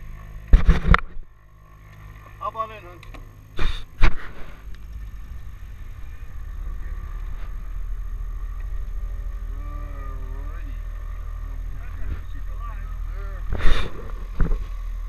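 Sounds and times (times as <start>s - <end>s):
small aircraft engine drone: 0.0s - 15.0s.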